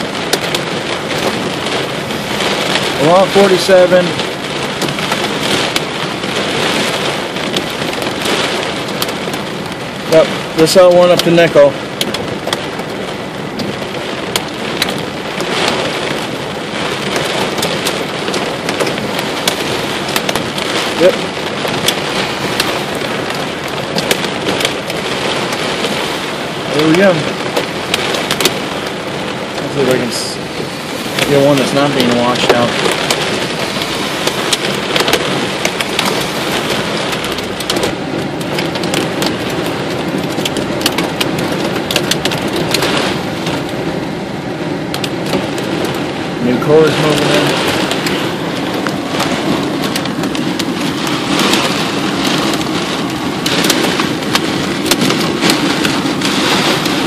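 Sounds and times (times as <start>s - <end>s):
hailstones ticking on car: 0.0s - 57.0s
heavy rain hissing on car: 0.0s - 57.0s.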